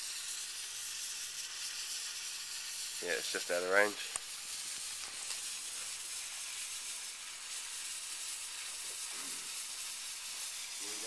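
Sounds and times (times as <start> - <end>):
fuse hissing and spitting: 0.0 - 11.0.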